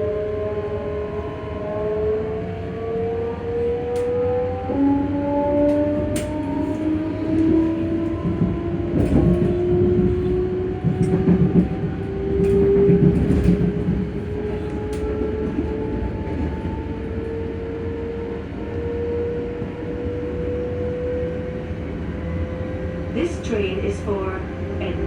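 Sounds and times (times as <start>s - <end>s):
electric train motors whining: 3.4s - 25.0s.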